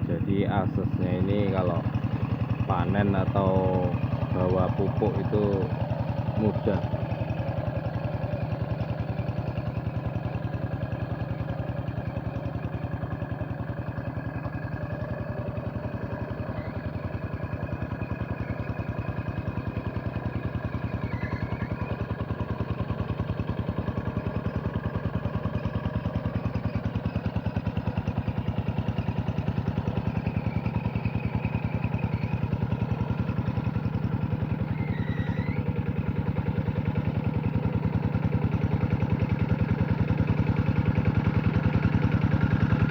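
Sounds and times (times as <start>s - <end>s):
diesel engine chugging: 0.0s - 42.9s.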